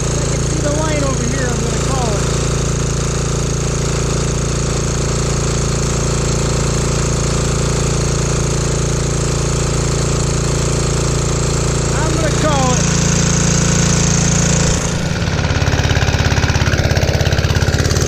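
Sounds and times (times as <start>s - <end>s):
diesel generator engine running: 0.0s - 18.0s.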